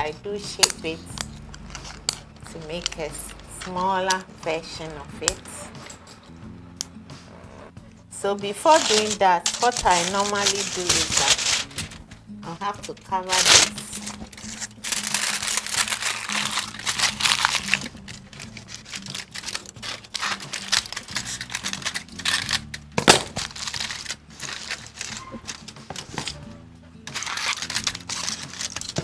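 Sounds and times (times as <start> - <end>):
wrapping material crinkling: 0.0 - 6.3, 8.5 - 26.5, 27.1 - 29.0
quiet background music: 0.0 - 29.0.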